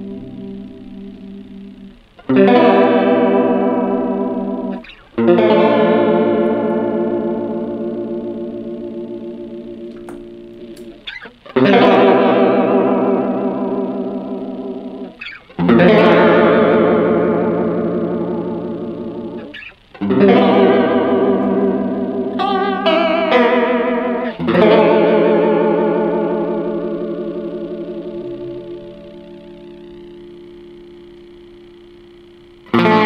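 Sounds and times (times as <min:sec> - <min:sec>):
electric guitar strumming chords: 0:00.0 - 0:33.0.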